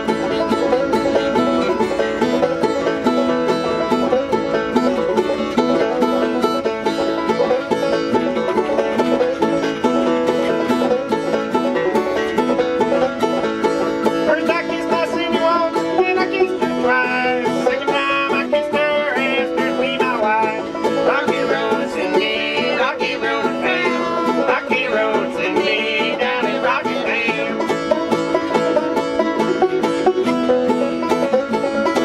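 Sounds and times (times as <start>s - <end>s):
banjo picking: 0.0s - 32.0s
strummed acoustic guitar: 0.0s - 32.0s.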